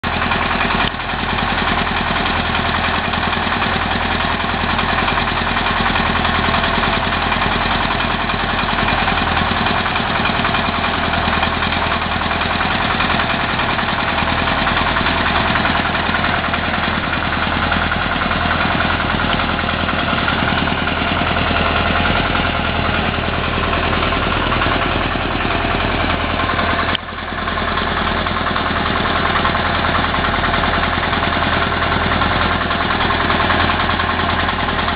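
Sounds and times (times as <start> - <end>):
drilling rig engine running: 0.0 - 34.9.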